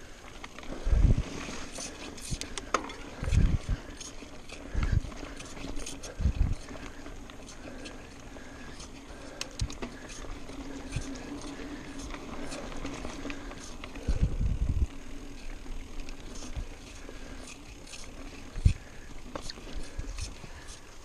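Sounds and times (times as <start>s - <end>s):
bike clicks and rattles: 0.0s - 21.0s
bike tyres on dirt: 0.0s - 21.0s.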